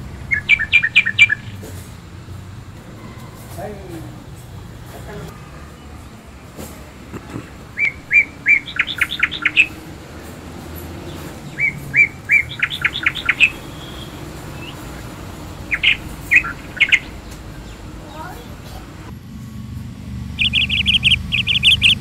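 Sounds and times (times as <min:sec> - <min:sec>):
songbird singing: 0:00.0 - 0:19.1, 0:20.3 - 0:22.0.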